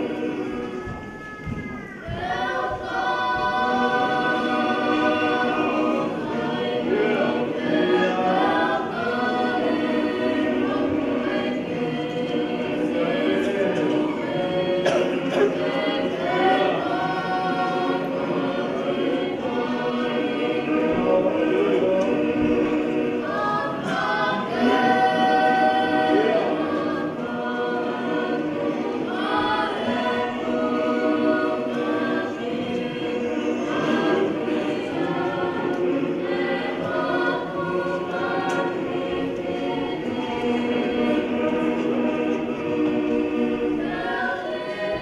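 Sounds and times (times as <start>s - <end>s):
choir singing a hymn: 0.0s - 45.0s.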